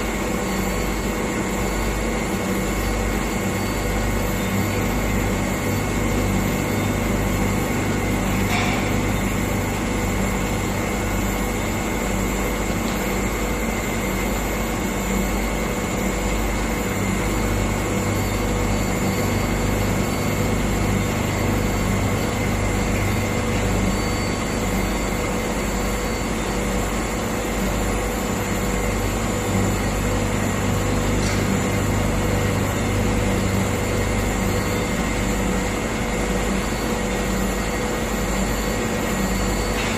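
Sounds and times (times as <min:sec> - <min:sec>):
grinding machine humming and whining: 0:00.0 - 0:39.9.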